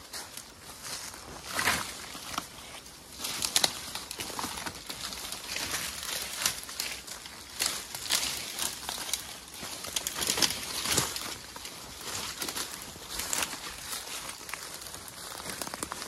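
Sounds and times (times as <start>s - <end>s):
dry leaves and twigs crackling: 0.0s - 16.0s.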